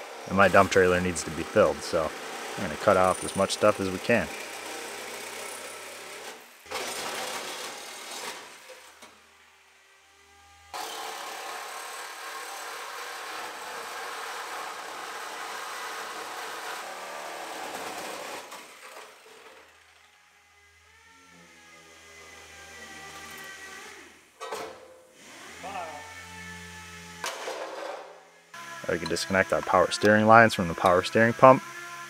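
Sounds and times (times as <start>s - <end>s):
reciprocating saw cutting metal: 0.0s - 9.2s, 10.1s - 32.0s.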